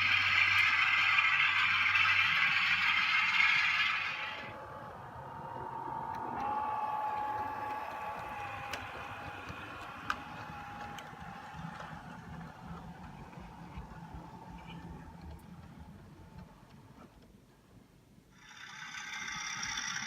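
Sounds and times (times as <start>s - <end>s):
model train wheels rattling: 0.0s - 5.0s, 6.1s - 17.4s, 18.4s - 20.0s
steady whine: 0.0s - 20.0s.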